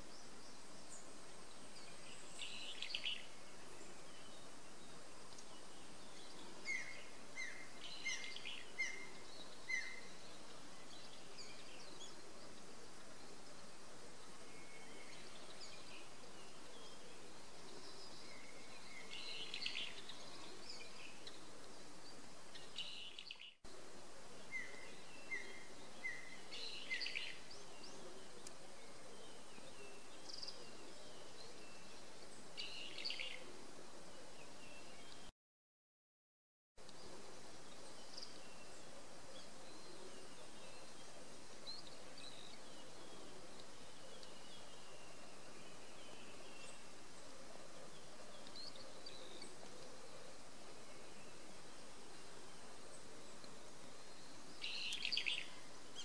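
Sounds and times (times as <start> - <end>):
steady outdoor hiss: 0.0 - 35.3, 36.8 - 56.0.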